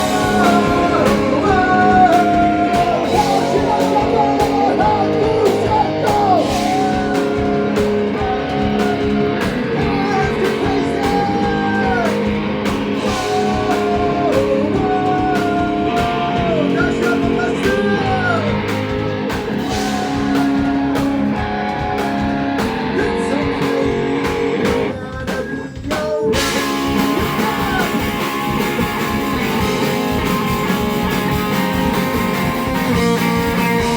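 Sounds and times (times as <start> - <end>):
person singing: 0.0 - 12.3, 13.0 - 28.3
drum kit: 0.0 - 33.9
guitar: 0.0 - 33.9.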